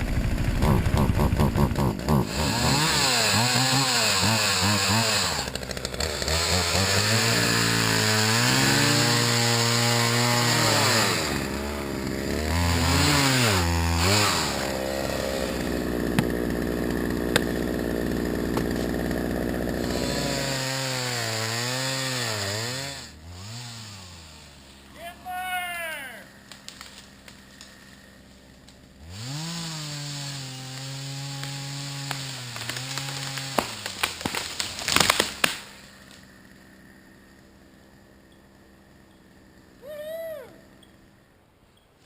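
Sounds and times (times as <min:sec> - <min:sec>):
chainsaw revving cutting wood: 0:00.0 - 0:24.9, 0:26.2 - 0:41.3.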